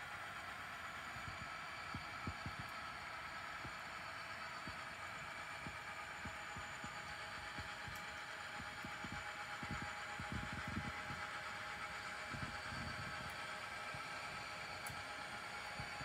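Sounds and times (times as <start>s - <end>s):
model train humming on track: 0.0s - 16.0s.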